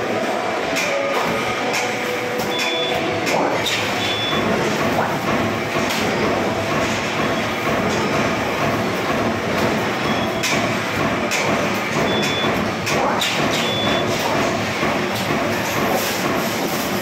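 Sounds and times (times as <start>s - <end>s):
press brake machine running: 0.0s - 17.0s.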